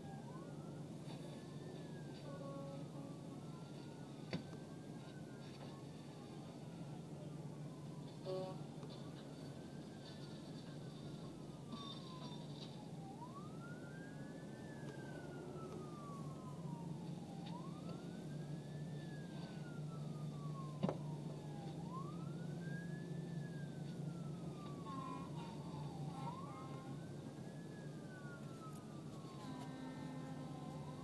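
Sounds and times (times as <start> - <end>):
siren wailing: 0.0 - 31.0.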